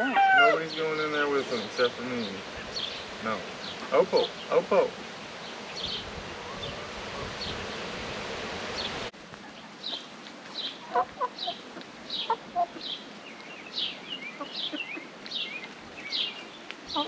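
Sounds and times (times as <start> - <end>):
chickens clucking: 0.0 - 8.2, 9.3 - 17.0
chickens calling: 0.0 - 17.0
steady hiss: 0.5 - 17.0.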